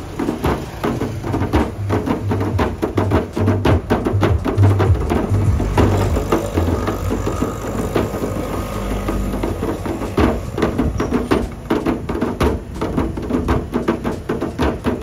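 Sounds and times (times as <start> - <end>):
frame drum beaten by hands: 0.0 - 15.0.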